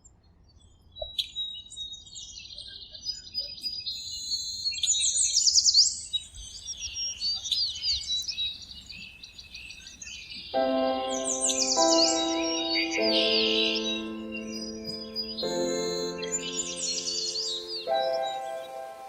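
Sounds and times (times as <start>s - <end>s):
small birds chirping: 1.0s - 19.0s.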